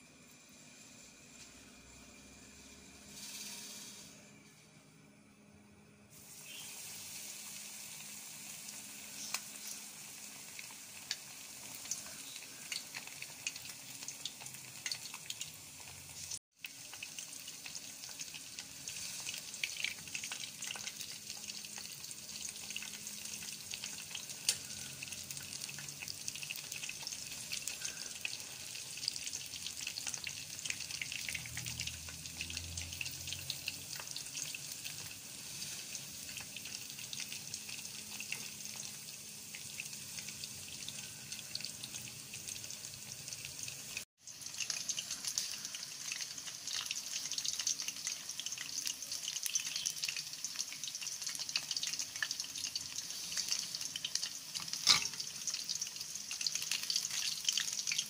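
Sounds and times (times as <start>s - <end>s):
chicken sizzling in hot oil: 0.0s - 4.4s, 6.1s - 58.0s.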